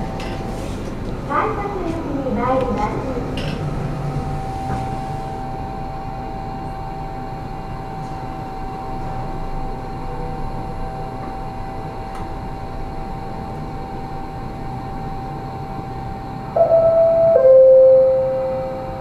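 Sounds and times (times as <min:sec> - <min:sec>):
elevator whine: 0:00.0 - 0:19.0.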